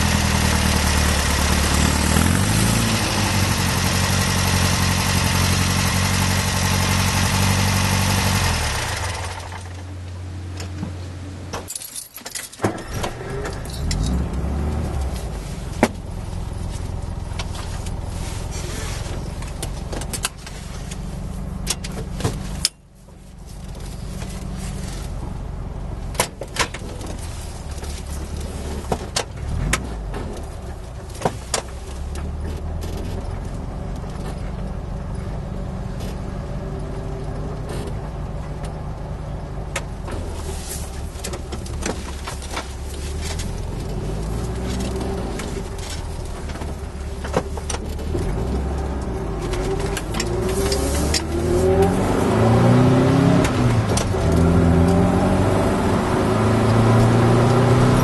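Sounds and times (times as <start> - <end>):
van engine running: 0.0 - 11.8, 12.7 - 58.0
road and wind noise: 0.0 - 58.0.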